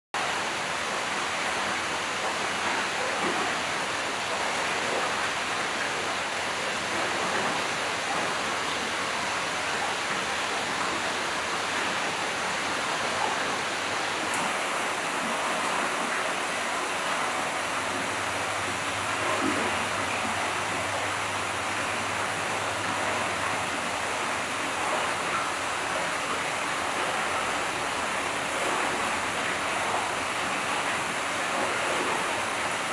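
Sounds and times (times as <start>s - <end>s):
running water rushing: 0.2s - 32.9s.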